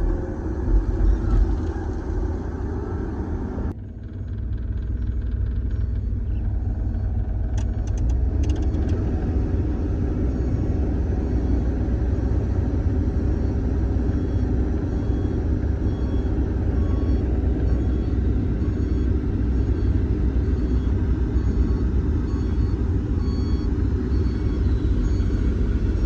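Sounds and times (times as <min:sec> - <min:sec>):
excavator engine rumbling: 0:00.0 - 0:26.0.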